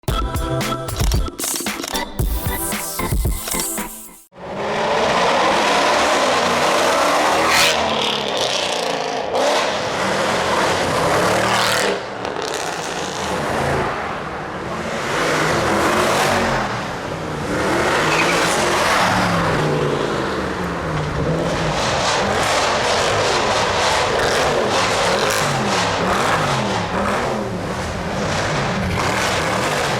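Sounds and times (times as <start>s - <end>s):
car engines revving: 4.4s - 29.9s.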